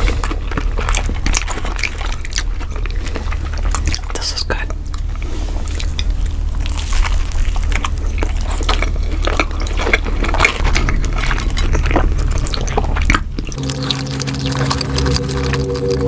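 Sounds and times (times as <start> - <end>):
wet eating clicks and smacks: 0.0 - 5.1, 5.7 - 16.0
steady low hum: 0.0 - 16.0.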